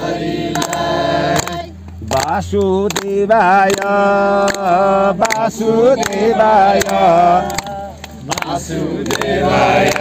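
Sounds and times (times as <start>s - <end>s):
group singing devotional song: 0.0s - 10.0s.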